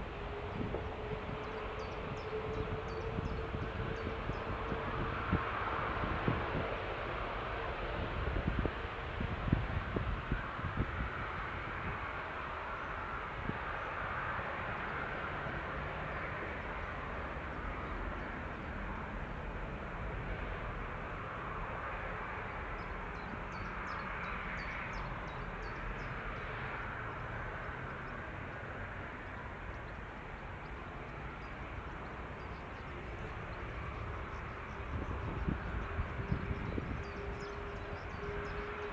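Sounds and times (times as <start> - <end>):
jet engines rumbling at low thrust: 0.0 - 38.9.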